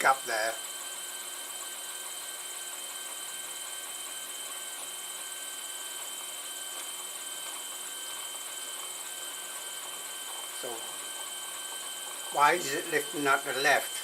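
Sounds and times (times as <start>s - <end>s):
faint constant high tones: 0.0s - 14.0s.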